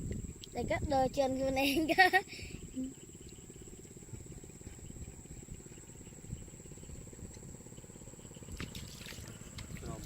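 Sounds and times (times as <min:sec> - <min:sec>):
high-pitched insect drone: 0:00.0 - 0:10.0
low fluttering rumble: 0:00.0 - 0:10.0.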